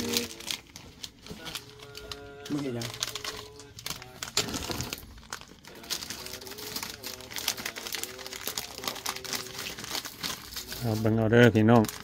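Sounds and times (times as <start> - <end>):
plastic packets crinkling: 0.0 - 12.0.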